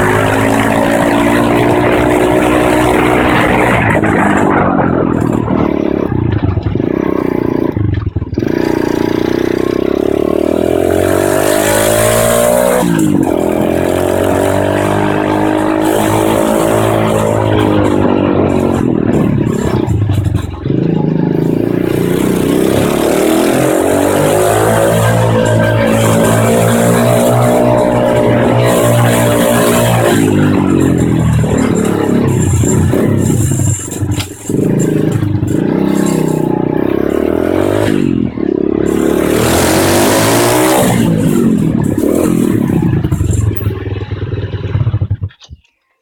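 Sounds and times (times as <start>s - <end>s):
motorbike engine revving: 0.0s - 45.6s.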